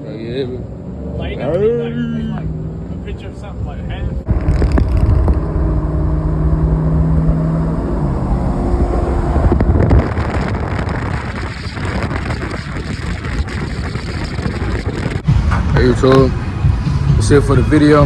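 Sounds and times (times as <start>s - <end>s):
truck engine deep rumble: 0.0s - 18.0s.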